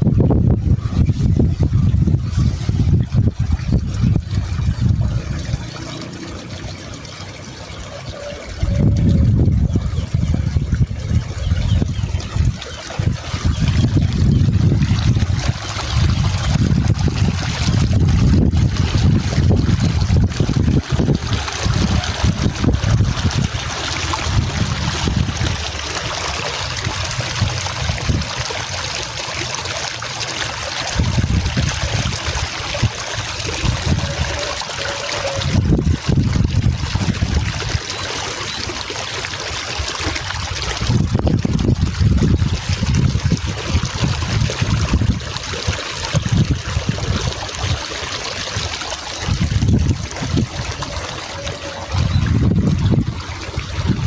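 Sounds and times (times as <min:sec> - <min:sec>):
wind buffeting microphone: 0:00.0 - 0:29.3, 0:30.6 - 0:54.0
water trickling: 0:00.0 - 0:54.0.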